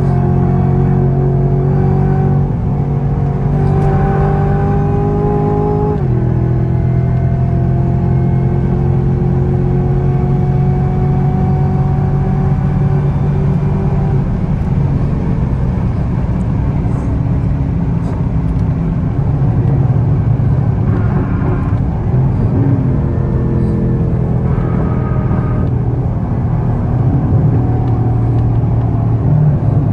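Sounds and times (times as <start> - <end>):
car engine running hard: 0.0 - 29.9
road and wind noise: 0.0 - 29.9.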